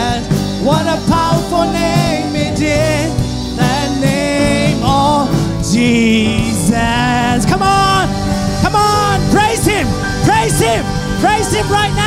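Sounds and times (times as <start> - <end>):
band playing worship music: 0.0 - 12.0.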